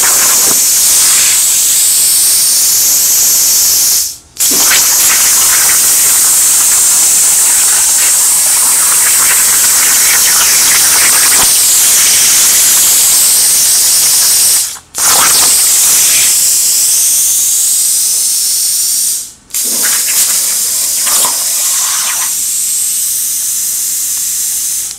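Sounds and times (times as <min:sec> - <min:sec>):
plasma torch cutting steel: 0:00.0 - 0:17.4, 0:19.6 - 0:23.1.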